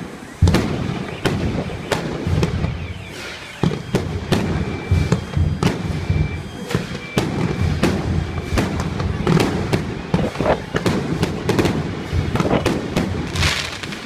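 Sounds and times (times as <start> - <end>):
fireworks bangs: 0.0 - 14.0
low rumble of blasts: 0.0 - 14.0.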